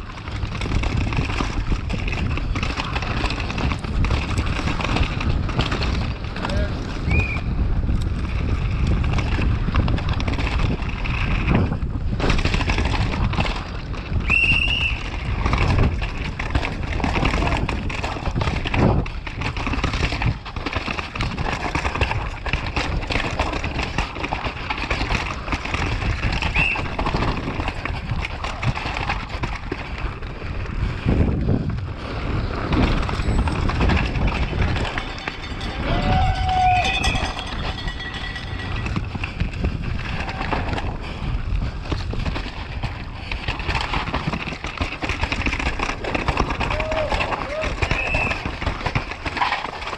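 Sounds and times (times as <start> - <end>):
bike rattling over bumps: 0.0 - 49.9
tyres rushing over dirt: 0.0 - 49.9
wind buffeting microphone: 0.0 - 49.9.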